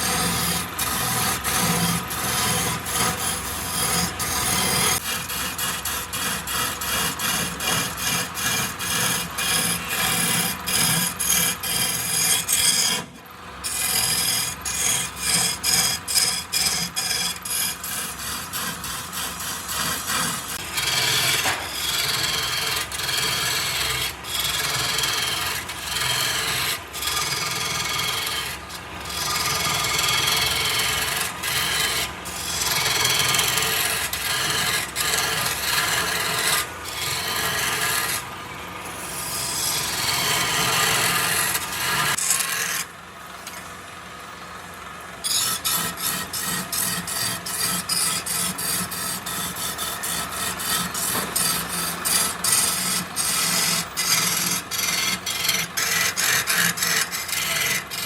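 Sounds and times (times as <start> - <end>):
wood scraping on a lathe: 0.0 - 58.0.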